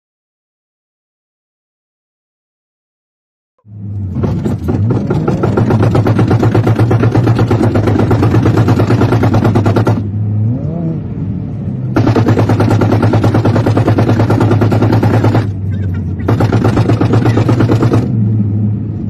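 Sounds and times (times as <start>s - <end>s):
car engine accelerating hard: 3.6s - 19.0s.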